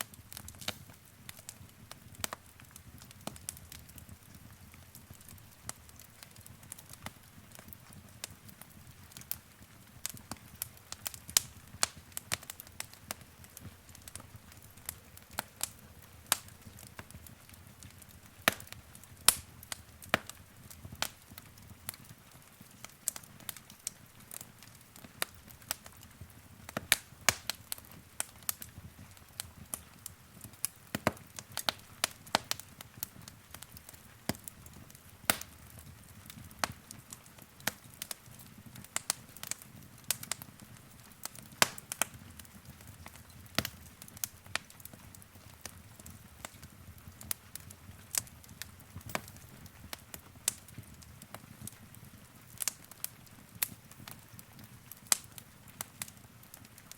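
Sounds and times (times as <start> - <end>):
wood fire popping and snapping: 0.0 - 56.9
low rumble of flames: 0.1 - 56.9.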